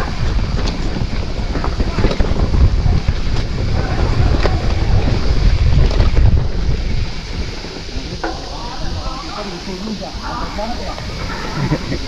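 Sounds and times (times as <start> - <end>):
bike knocking and rattling over rocks: 0.0 - 12.0
wind buffeting microphone: 0.0 - 12.0.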